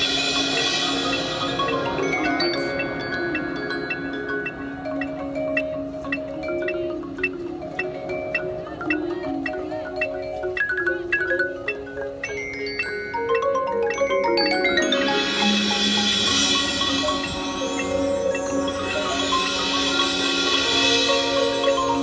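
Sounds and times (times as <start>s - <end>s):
mallet percussion melody: 0.0s - 22.0s.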